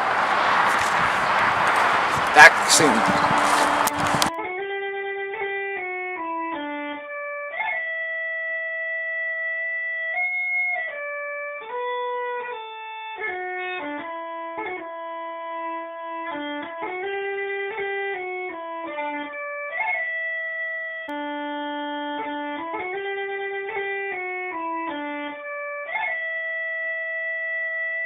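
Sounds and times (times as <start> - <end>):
slow instrumental music: 0.6 - 27.8.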